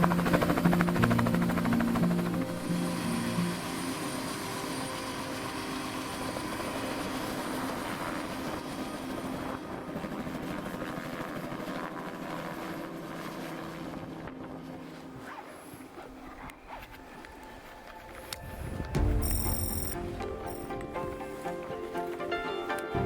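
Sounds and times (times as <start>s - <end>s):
aircraft engine droning: 0.0s - 23.0s.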